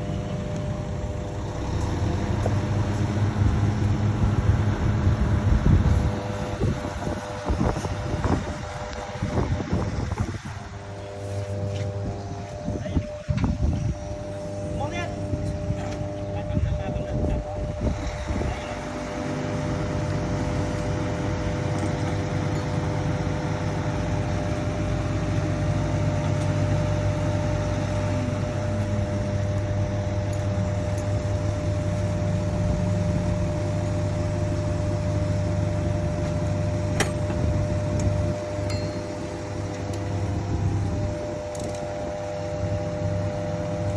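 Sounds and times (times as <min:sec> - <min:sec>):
machine motor humming: 0:00.0 - 0:43.9.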